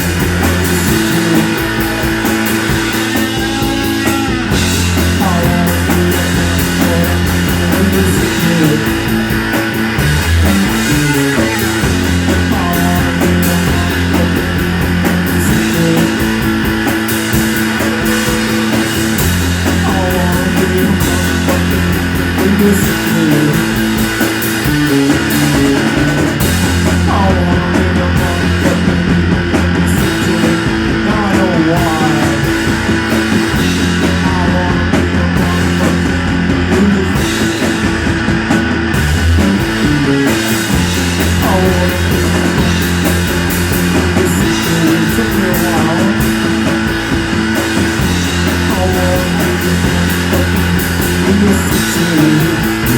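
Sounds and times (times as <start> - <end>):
rock band playing live: 0.0 - 52.9.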